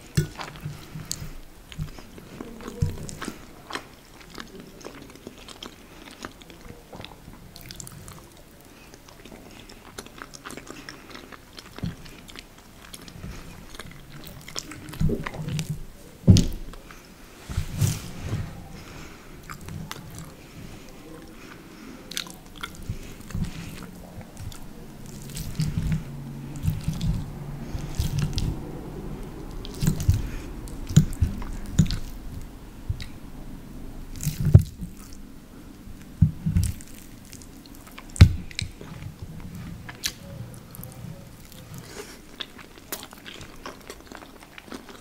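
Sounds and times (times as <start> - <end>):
wet chewing sounds: 0.0 - 45.0.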